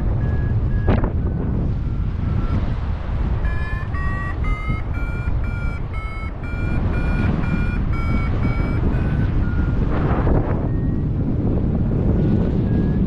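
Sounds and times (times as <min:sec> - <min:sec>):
variometer beeping: 0:00.0 - 0:11.4
wind rushing over microphone: 0:00.0 - 0:13.0.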